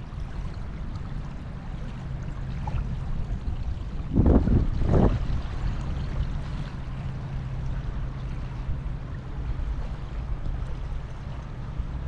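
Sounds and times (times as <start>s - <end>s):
low steady hum: 0.0s - 12.0s
water lapping at shoreline: 0.0s - 12.0s.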